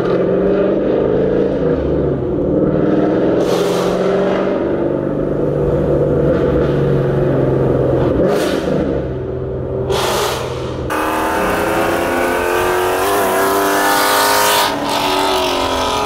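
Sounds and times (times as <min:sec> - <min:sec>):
car exhaust drone: 0:00.0 - 0:16.0.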